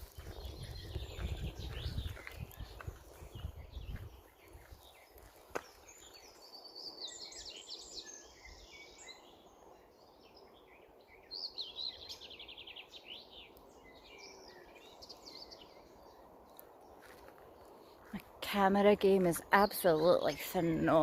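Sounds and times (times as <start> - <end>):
birds singing and trilling: 0.0 - 21.0.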